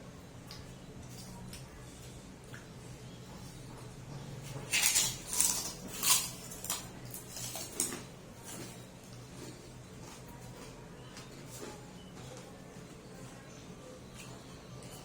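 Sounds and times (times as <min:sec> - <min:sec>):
crunchy chewing: 0:00.3 - 0:15.0.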